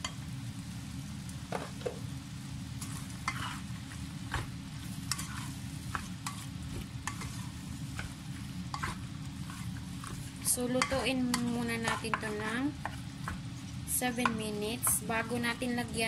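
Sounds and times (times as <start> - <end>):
chicken sizzling: 0.0 - 16.0.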